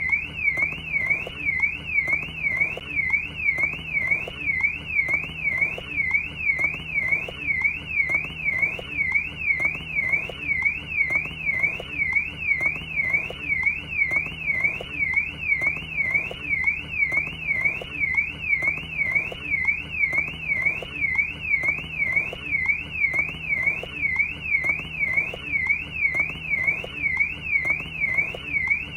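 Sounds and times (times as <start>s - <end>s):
car alarm siren wailing: 0.0s - 28.9s.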